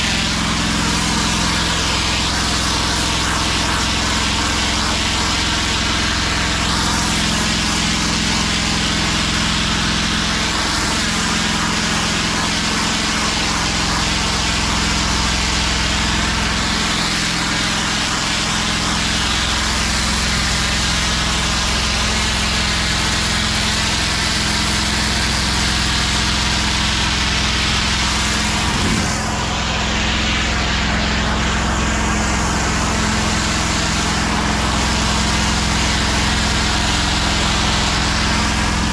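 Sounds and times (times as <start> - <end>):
high-pressure water spraying hiss: 0.0 - 38.9
pressure washer engine running: 0.0 - 38.9.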